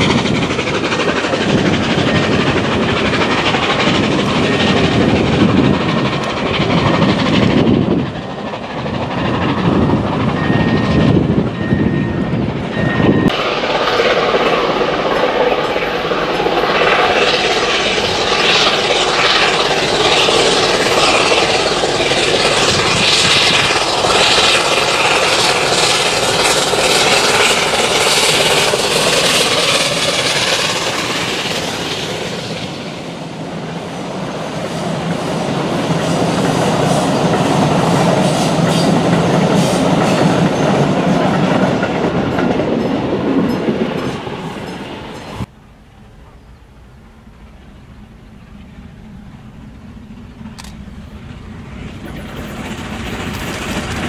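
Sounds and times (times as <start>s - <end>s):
train coaches clickety-clack: 0.0s - 45.5s, 46.2s - 54.0s
steam locomotive passing: 0.0s - 54.0s.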